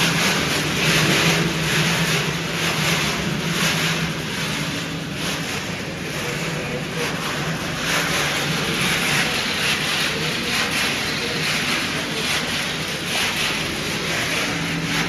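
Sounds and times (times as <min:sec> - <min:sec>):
machinery hum and whir: 0:00.0 - 0:15.0.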